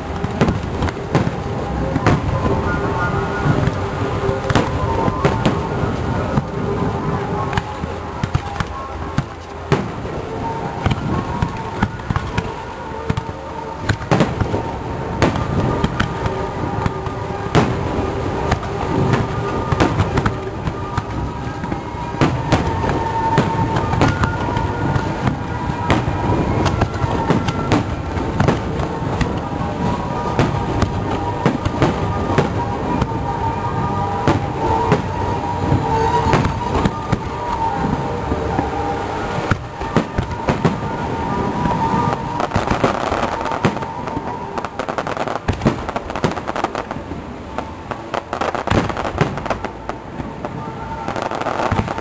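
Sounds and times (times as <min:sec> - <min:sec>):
fireworks bangs and crackles: 0:00.0 - 0:52.0
music playing: 0:00.0 - 0:52.0.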